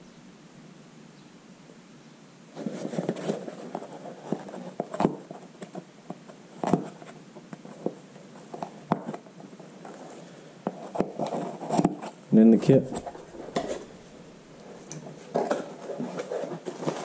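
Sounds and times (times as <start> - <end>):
handling noise on workbench: 2.6 - 17.0.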